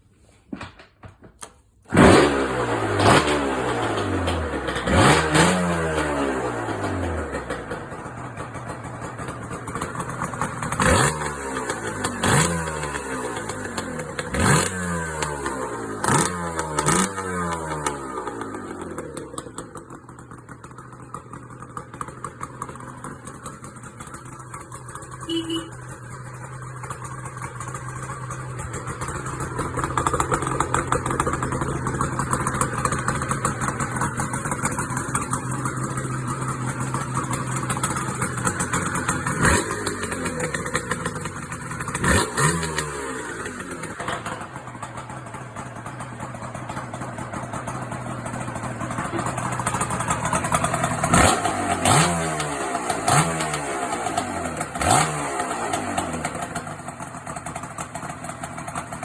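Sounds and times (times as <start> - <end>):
two-stroke motorcycle engine revving: 1.9 - 59.0.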